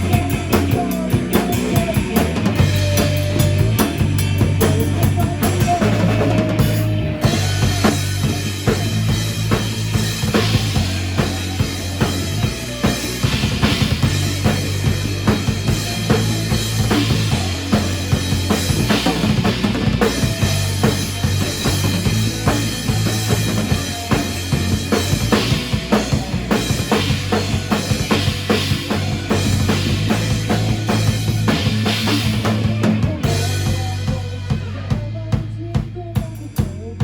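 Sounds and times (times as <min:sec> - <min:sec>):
drum kit beat: 0:00.0 - 0:37.0
sustained bass line: 0:00.0 - 0:37.0.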